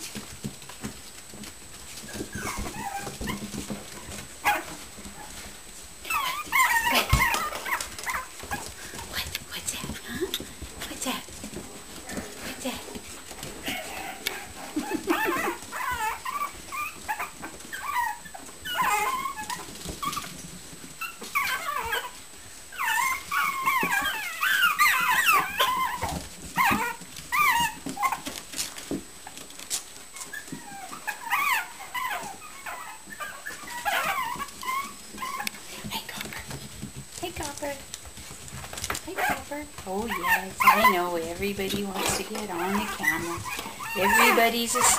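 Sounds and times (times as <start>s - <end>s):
puppies yipping and whining: 0.1s - 9.1s, 11.3s - 36.9s, 37.5s - 44.9s.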